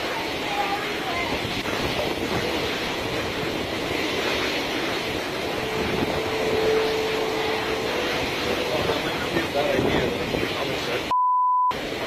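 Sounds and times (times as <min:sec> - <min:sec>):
hurricane wind blowing: 0:00.0 - 0:11.1, 0:11.7 - 0:12.0.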